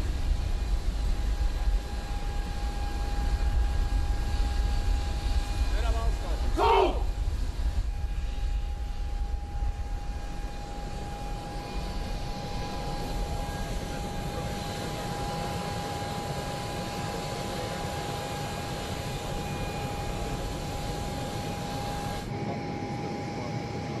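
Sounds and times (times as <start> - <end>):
jet engine whine: 0.0 - 24.0
jet rumble and hiss: 0.0 - 24.0.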